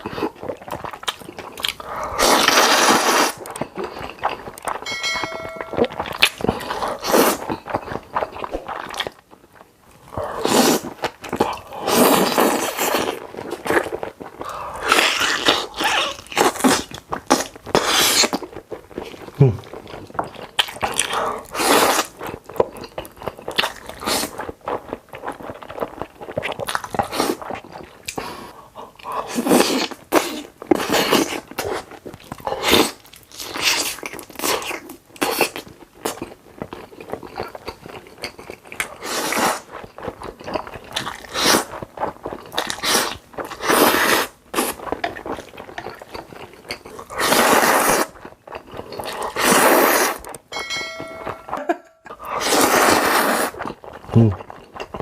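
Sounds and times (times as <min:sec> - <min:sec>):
person chewing crunchy food: 0:00.0 - 0:50.5, 0:51.4 - 0:55.0.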